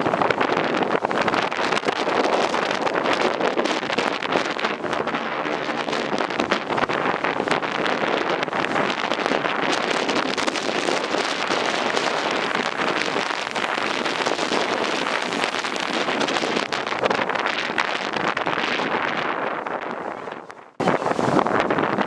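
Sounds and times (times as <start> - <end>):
wind crackle on microphone: 0.0 - 22.0
gale blowing over microphone: 1.0 - 22.0.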